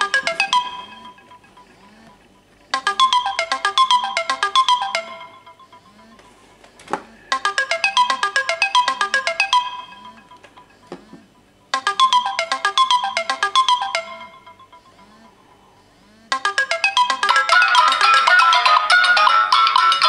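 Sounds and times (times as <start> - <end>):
phone ringtone plucked notes: 0.0 - 2.1, 2.7 - 6.2, 7.3 - 15.4, 16.3 - 20.0.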